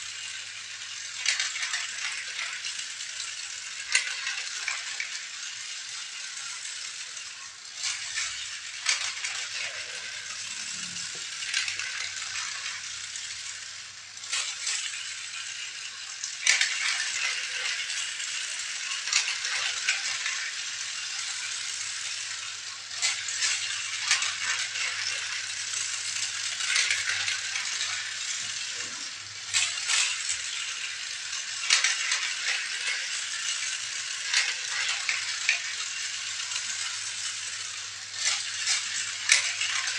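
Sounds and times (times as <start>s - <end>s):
plastic toys clicking and knocking: 0.1s - 39.9s.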